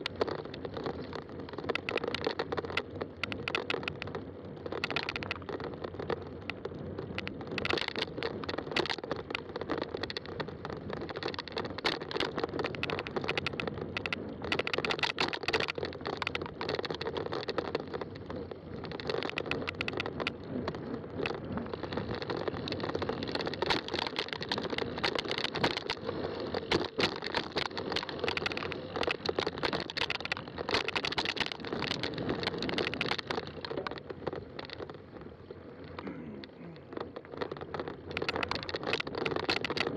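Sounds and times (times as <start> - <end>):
bicycle rattles: 0.0 - 39.9
bike tire noise on trail: 0.0 - 39.9
tires crackling over rough ground: 0.0 - 39.9.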